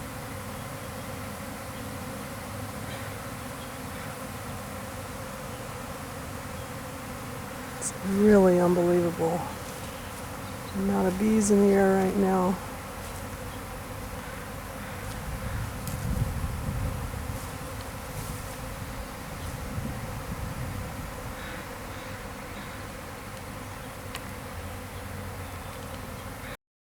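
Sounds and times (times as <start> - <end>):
bee swarm buzzing: 0.0 - 26.6.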